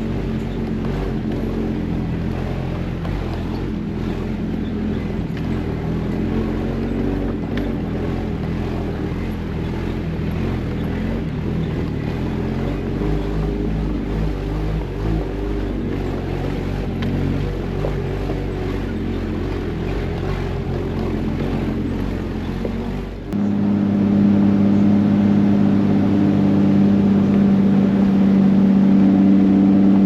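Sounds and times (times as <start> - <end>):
car engine droning: 0.0 - 30.0
road and drivetrain rumble: 0.0 - 30.0.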